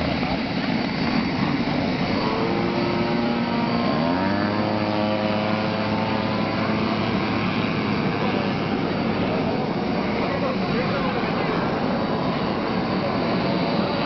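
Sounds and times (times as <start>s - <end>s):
toy aeroplane motor whining: 0.3s - 14.0s.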